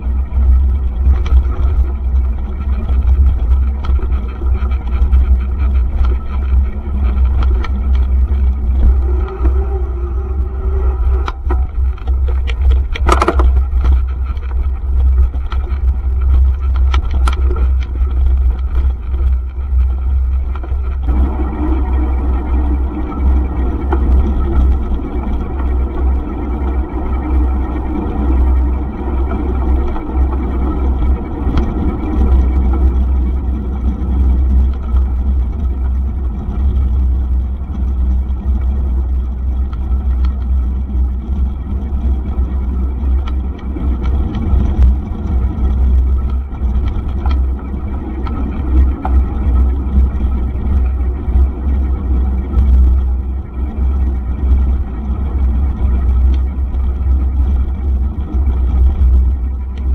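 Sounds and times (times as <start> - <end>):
bike tyres rolling on dirt road: 0.0 - 59.9
wind rumble on microphone: 0.0 - 59.9.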